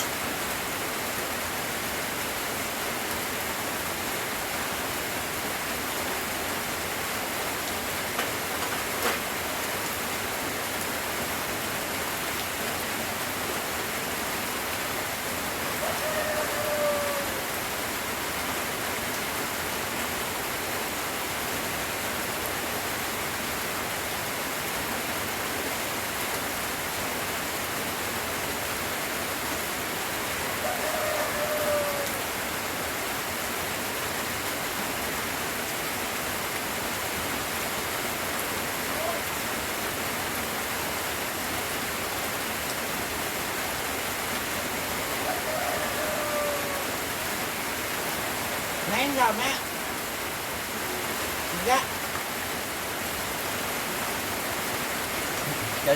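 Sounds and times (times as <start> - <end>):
light rain falling: 0.0 - 55.9.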